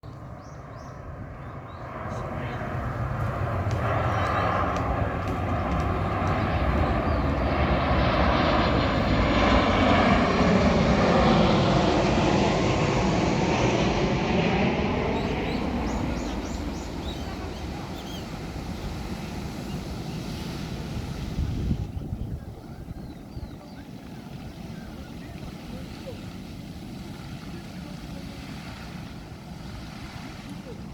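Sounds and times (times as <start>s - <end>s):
aircraft engine rumble: 0.0s - 30.9s.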